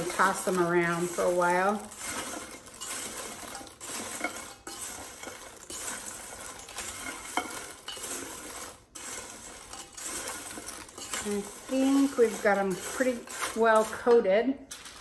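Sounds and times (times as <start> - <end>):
crisp crackly rustle: 0.0 - 14.0.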